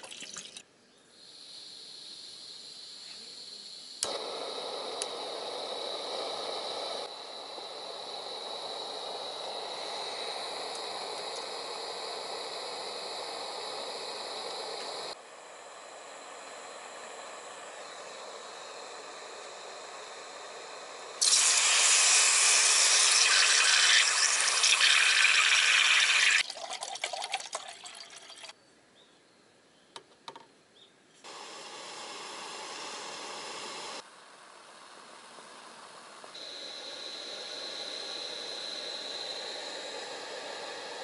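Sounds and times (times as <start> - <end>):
gas stove burner hissing: 1.2 - 26.5, 31.2 - 41.0.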